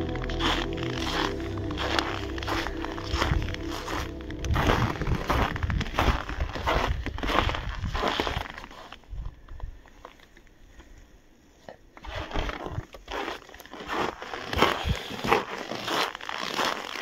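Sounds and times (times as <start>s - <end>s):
footsteps crunching in snow: 0.0s - 9.1s, 12.0s - 17.0s.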